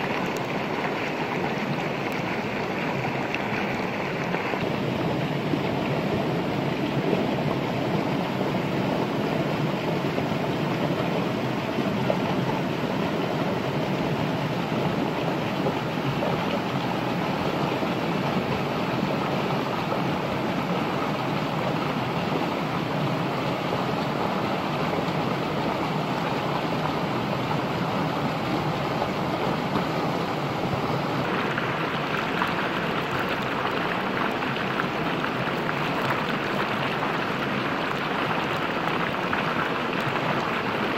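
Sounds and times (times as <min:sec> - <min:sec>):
flowing water: 0:00.0 - 0:40.9.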